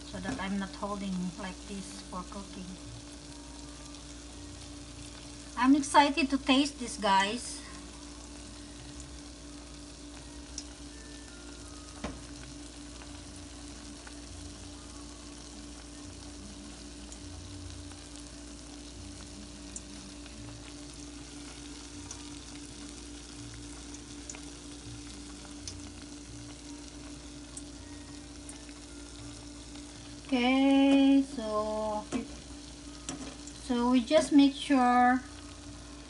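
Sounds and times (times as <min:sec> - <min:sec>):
oil sizzling in a pan: 0:00.0 - 0:36.0.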